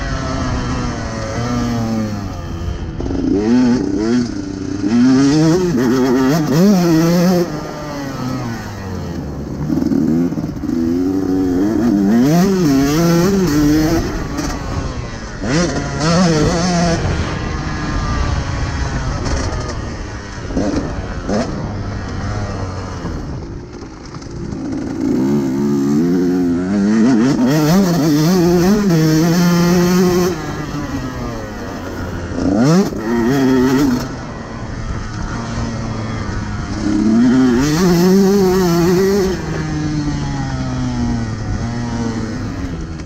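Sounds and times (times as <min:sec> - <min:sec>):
motocross bike engine revving: 0:00.0 - 0:43.0.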